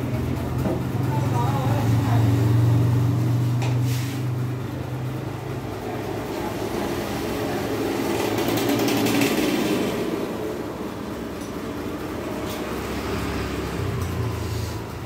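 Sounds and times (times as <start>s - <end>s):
traffic engine drone: 0.0s - 15.0s.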